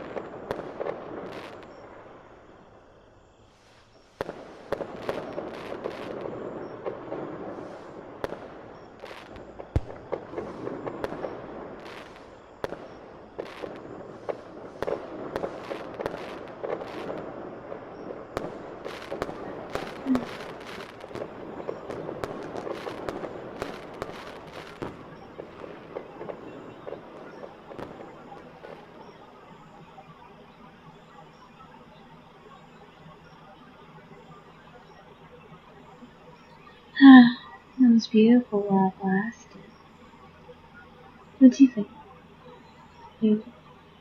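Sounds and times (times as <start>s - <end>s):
fireworks crackling and popping: 0.0s - 44.0s.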